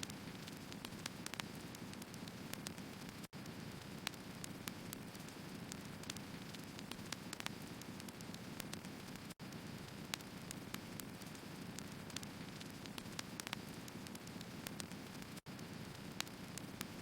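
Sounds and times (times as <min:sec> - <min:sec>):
firewood burning and crackling: 0:00.0 - 0:17.0.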